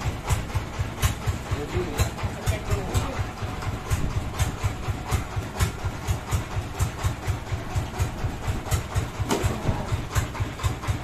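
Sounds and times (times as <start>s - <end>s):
sawmill engine idling: 0.0s - 11.0s.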